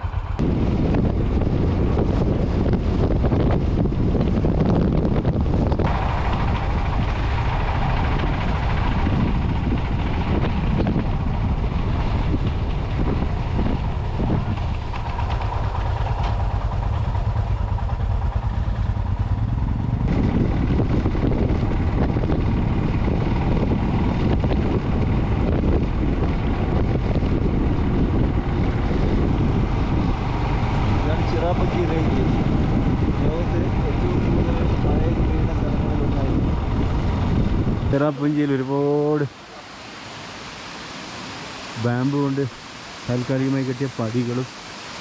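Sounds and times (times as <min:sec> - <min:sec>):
motorcycle engine running: 0:00.0 - 0:38.5
wind rushing over microphone: 0:00.0 - 0:45.0.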